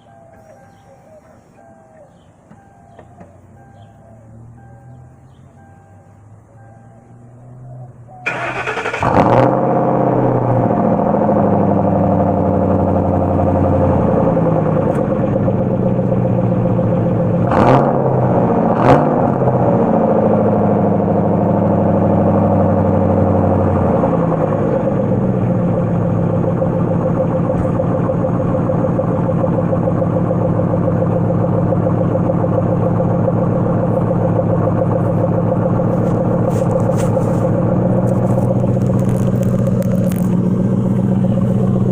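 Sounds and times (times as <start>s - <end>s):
car engine starting and idling: 0.0s - 41.9s.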